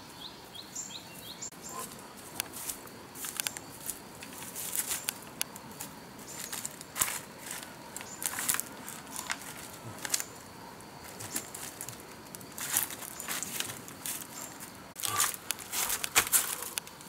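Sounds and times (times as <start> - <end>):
dry leaves crackling underfoot: 1.1 - 17.0.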